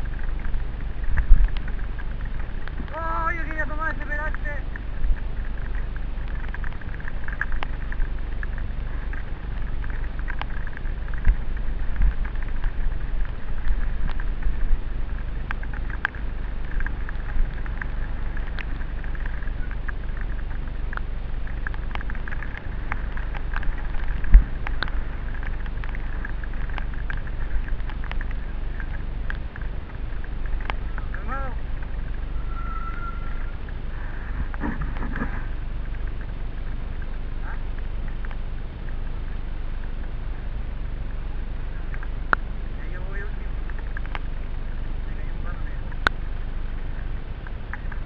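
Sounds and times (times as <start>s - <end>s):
bike rattling and knocking: 0.0s - 39.1s
wind rumble on microphone: 0.0s - 48.0s.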